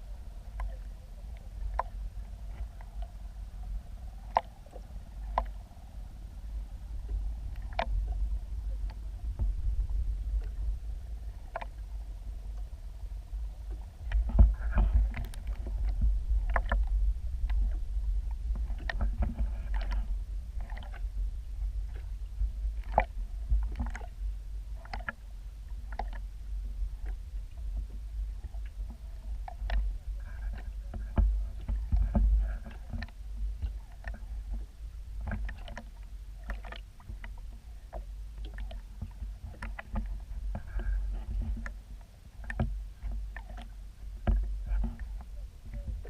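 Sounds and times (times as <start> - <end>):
deep water rumble: 0.0 - 46.0
knocks and clicks on boat: 0.5 - 3.1, 4.2 - 5.7, 7.1 - 10.7, 11.3 - 12.7, 13.7 - 21.0, 21.8 - 24.1, 24.8 - 46.0.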